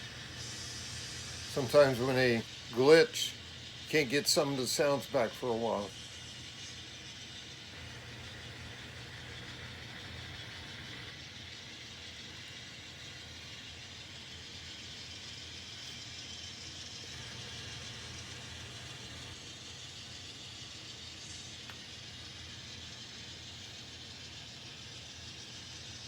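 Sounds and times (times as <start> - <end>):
model train motor whir: 0.0 - 26.0.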